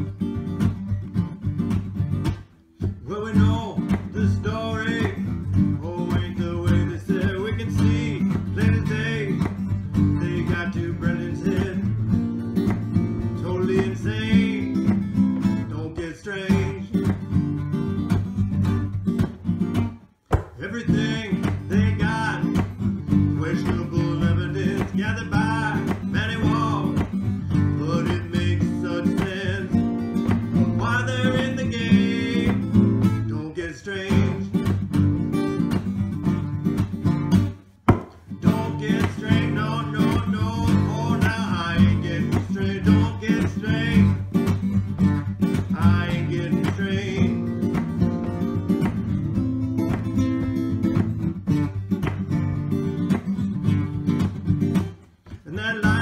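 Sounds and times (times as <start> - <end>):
acoustic guitar background music: 0.0 - 56.0.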